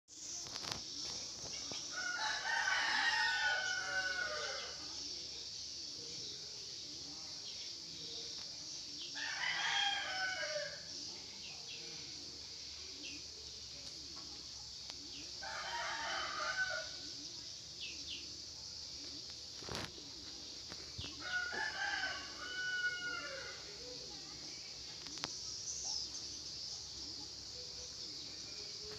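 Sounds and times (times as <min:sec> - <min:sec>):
high insect hum: 0:00.1 - 0:28.9.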